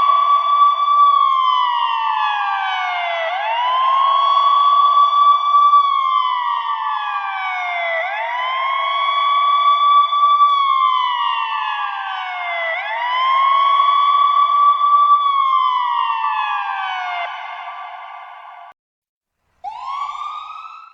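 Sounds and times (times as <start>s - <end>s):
ambulance siren wailing: 0.0s - 18.8s, 19.6s - 20.9s.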